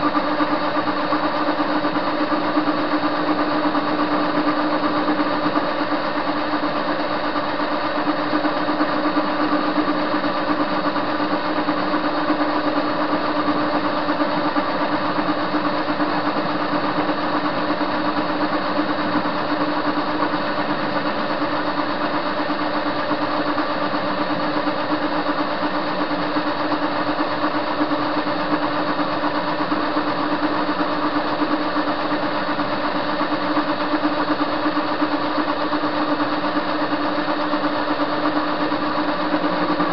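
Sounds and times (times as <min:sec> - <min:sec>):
lathe motor and gear hum: 0:00.0 - 0:39.9.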